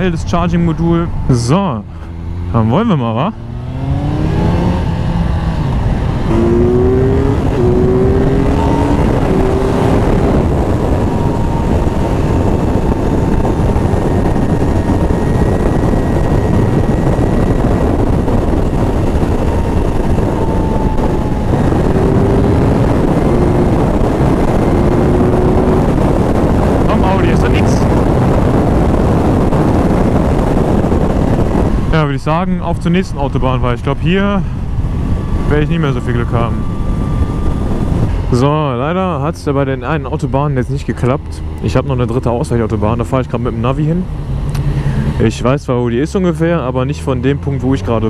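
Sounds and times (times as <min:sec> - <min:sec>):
motorcycle engine accelerating: 0:00.0 - 0:48.0
wind and road noise: 0:00.0 - 0:48.0.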